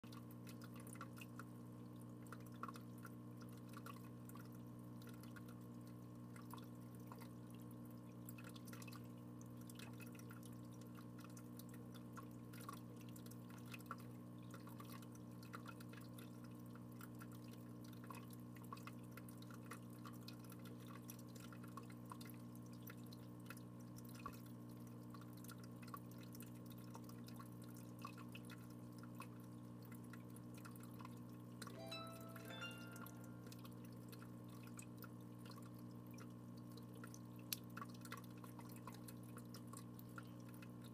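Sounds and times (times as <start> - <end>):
faint steady hum: 0.0 - 40.9
water drips: 0.0 - 40.9.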